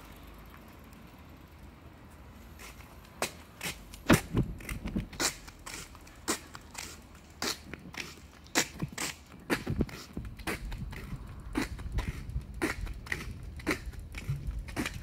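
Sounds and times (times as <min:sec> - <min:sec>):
footsteps on asphalt: 0:02.0 - 0:15.0.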